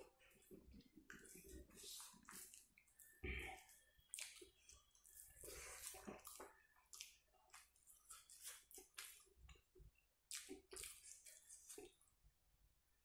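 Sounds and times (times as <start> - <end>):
person chewing with wet smacks: 0.0 - 12.1.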